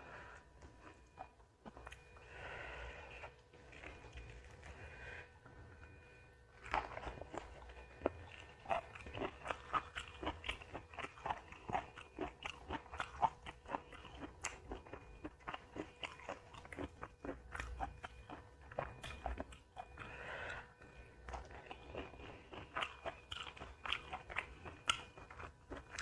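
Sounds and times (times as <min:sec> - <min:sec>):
person crunching and chewing: 0:00.0 - 0:05.9, 0:06.5 - 0:26.0.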